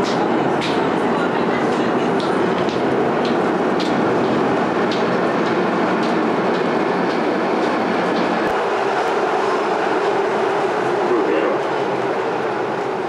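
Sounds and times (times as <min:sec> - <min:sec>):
rail vehicle rumbling: 0:00.0 - 0:13.0.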